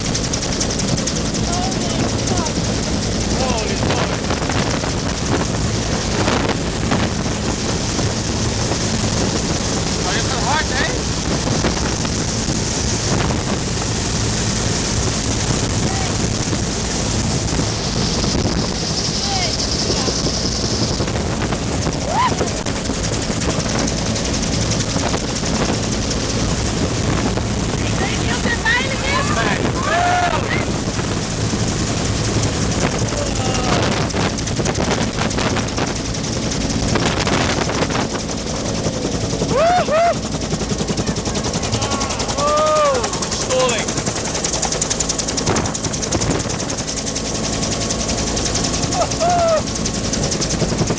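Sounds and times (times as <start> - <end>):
helicopter drone: 0.0 - 50.9
wind rushing over microphone: 0.0 - 50.9.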